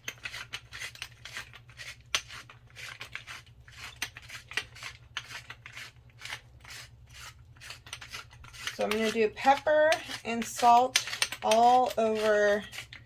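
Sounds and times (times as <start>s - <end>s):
pepper grinder grinding: 0.0s - 13.0s.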